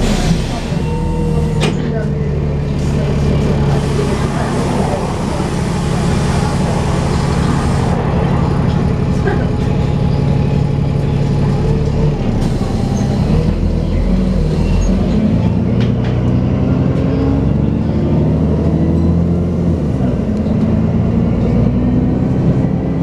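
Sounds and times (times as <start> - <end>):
bus engine whining: 0.0 - 23.0.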